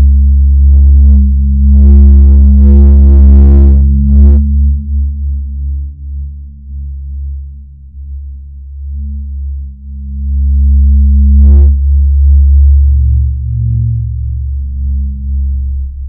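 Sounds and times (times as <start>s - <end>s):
low drone: 0.0s - 16.0s.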